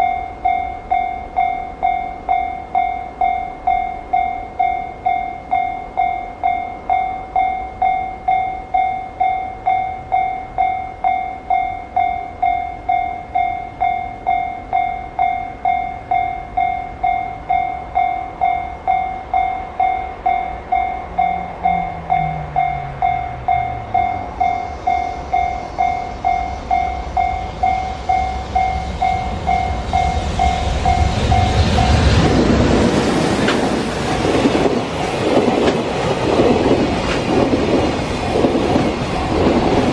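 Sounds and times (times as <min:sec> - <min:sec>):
level-crossing alarm bell: 0:00.0 - 0:32.4
train passing: 0:00.0 - 0:39.9.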